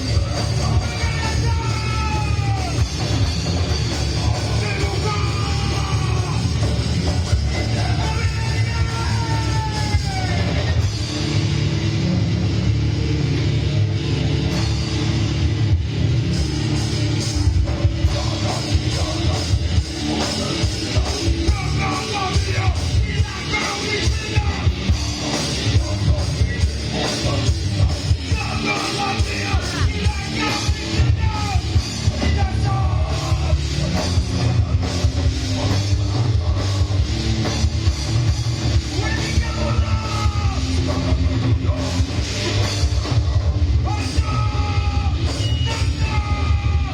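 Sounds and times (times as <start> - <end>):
person singing and shouting: 0.0 - 3.2, 4.0 - 10.9, 17.4 - 37.0, 38.7 - 46.9
distorted electric guitars: 0.0 - 46.9
drum kit: 0.0 - 46.9.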